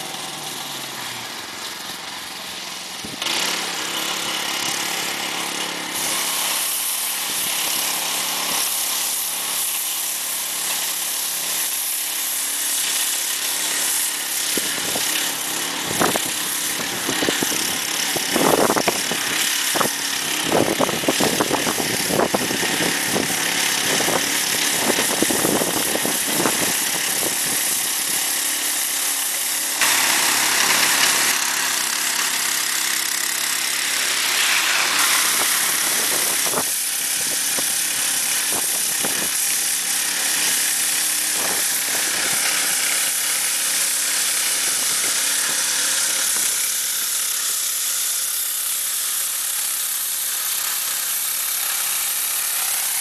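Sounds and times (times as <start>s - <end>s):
rotating brush sweeping snow: 0.0s - 53.0s
small engine running steadily: 0.0s - 53.0s.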